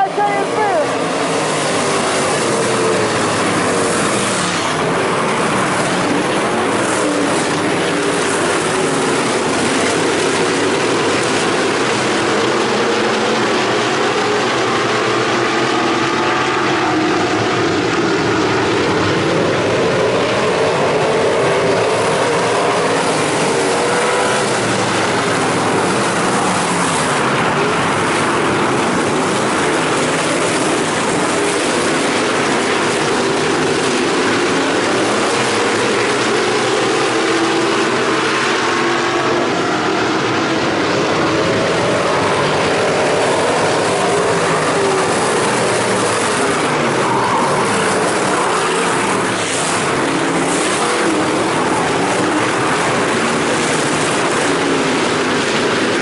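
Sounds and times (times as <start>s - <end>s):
racing car engines droning: 0.0s - 56.0s.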